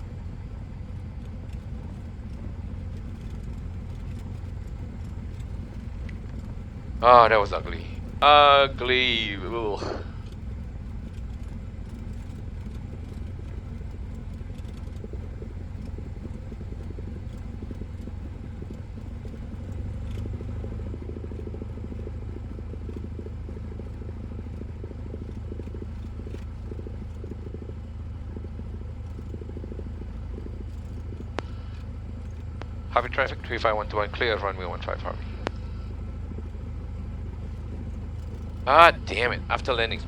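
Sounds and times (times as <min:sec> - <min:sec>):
aircraft engine humming: 0:00.0 - 0:40.0.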